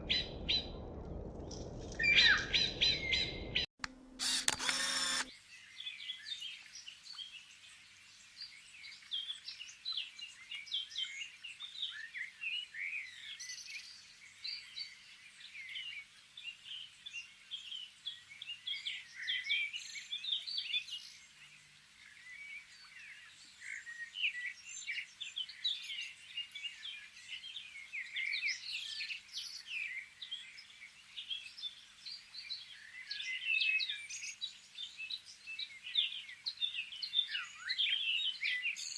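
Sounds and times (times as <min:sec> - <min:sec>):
songbirds chirping and singing: 0:00.0 - 0:03.7, 0:04.3 - 0:38.9.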